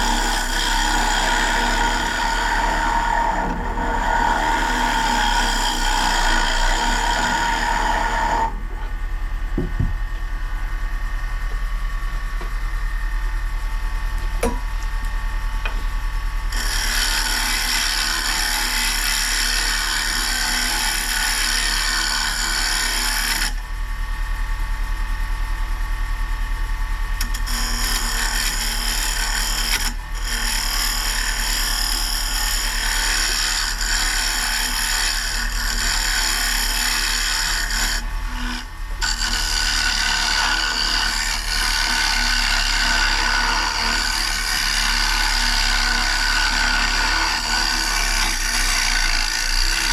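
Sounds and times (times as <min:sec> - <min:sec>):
tool scraping spinning wood: 0:00.0 - 0:23.6, 0:27.2 - 0:49.9
wood lathe humming: 0:00.0 - 0:23.7, 0:27.2 - 0:49.9.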